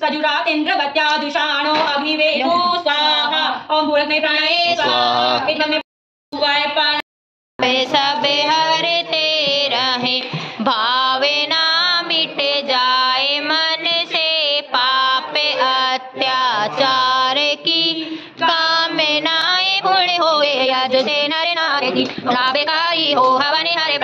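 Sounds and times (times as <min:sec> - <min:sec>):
woman singing a devotional chant: 0:00.0 - 0:05.8, 0:06.4 - 0:07.0, 0:07.6 - 0:24.0.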